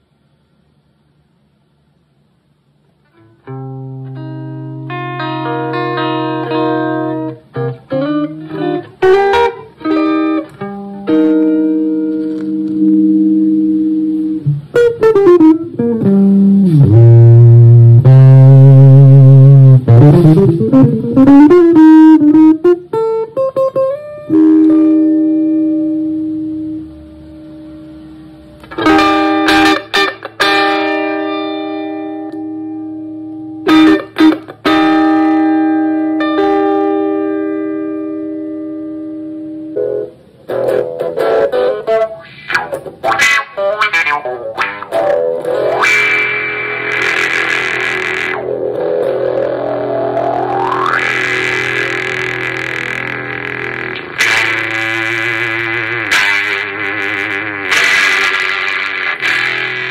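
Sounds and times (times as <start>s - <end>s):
fuzz electric guitar: 3.0s - 59.9s.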